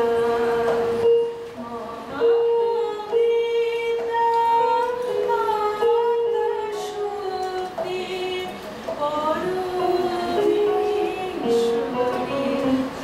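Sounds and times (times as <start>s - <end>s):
electronic keyboard: 0.0s - 13.0s
woman singing slow melody: 0.0s - 13.0s.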